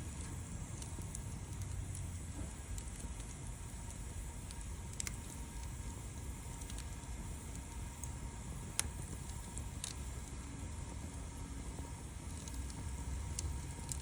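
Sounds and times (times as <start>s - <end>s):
bonfire crackling and popping: 0.0s - 14.0s.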